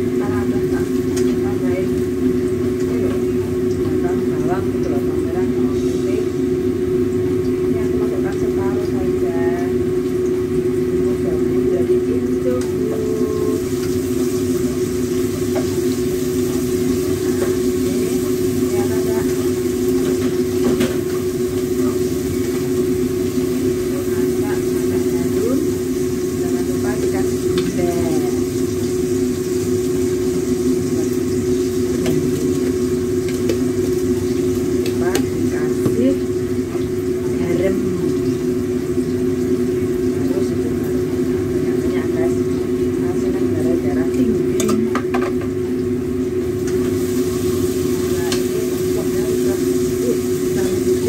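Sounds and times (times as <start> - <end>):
food sizzling in a wok: 0.0 - 51.0
steady mechanical hum: 0.0 - 51.0.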